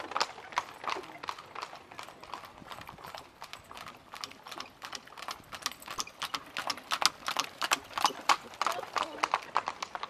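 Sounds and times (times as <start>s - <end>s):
hooves clip-clopping on asphalt: 0.0s - 10.0s.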